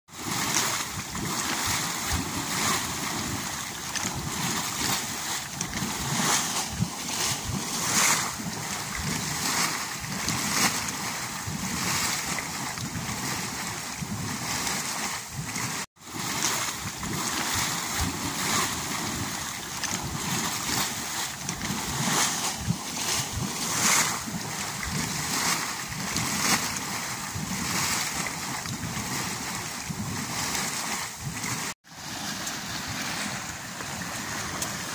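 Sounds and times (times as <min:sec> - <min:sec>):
water rushing and splashing: 0:00.1 - 0:34.9.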